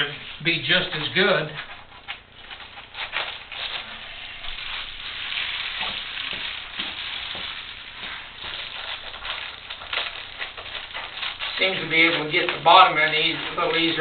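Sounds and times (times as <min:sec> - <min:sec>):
bubble foil crinkling: 0:00.0 - 0:14.0.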